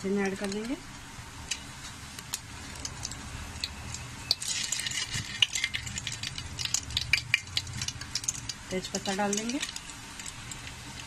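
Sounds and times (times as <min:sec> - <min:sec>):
spices sizzling and popping in oil: 0:00.0 - 0:11.0.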